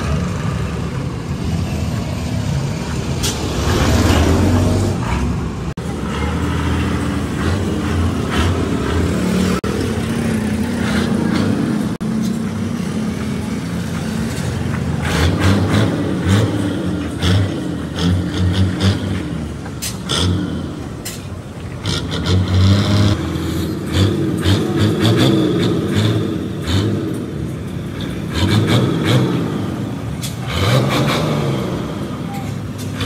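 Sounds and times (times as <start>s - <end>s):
heavy vehicle engine running: 0.0s - 33.0s.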